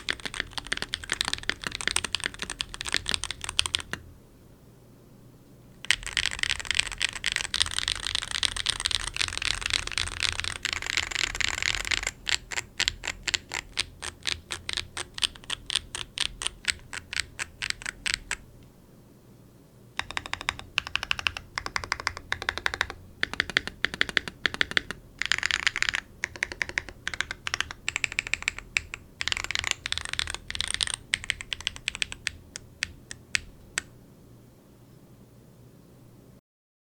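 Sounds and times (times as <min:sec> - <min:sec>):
mechanical keyboard typing: 0:00.0 - 0:04.0, 0:05.8 - 0:18.4, 0:20.0 - 0:33.9.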